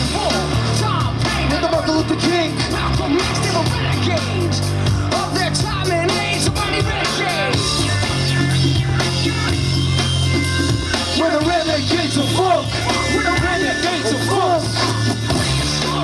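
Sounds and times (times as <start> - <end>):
loud club music with heavy bass: 0.0 - 16.0
vocal line over music: 0.0 - 16.0.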